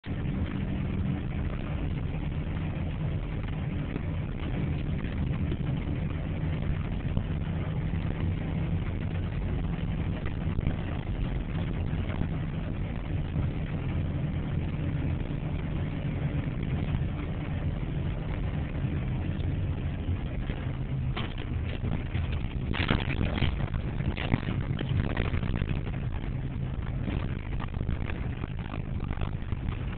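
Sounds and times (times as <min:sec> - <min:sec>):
heavy engine idling: 0:00.0 - 0:29.9.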